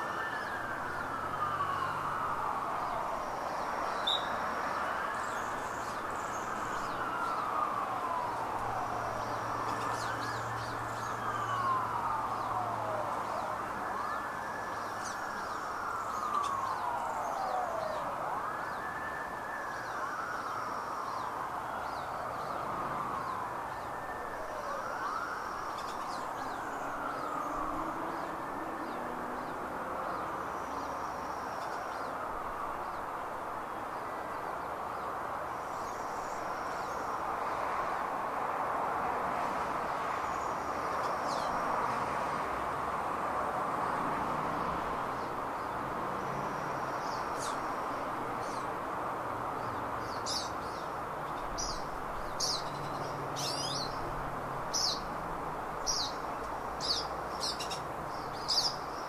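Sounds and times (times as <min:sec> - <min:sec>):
distant siren wailing: 0:00.0 - 0:59.0.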